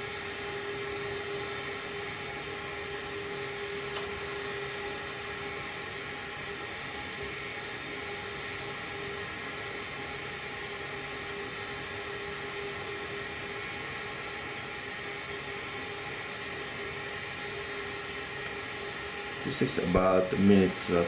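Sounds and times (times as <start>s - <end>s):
heating system hum: 0.0s - 21.0s
heating system whirring: 0.0s - 21.0s.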